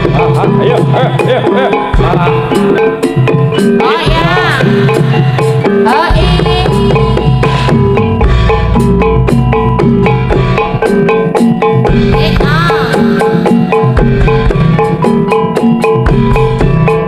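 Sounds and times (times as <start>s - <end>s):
drums: 0.0s - 17.0s
struck metal percussion: 0.0s - 17.0s.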